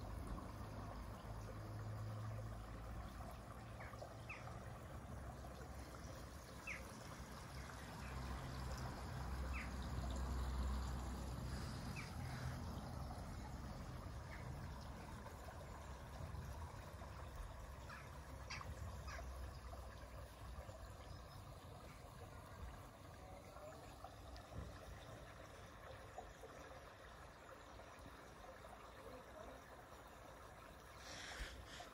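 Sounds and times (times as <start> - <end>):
water trickling: 0.0 - 31.9.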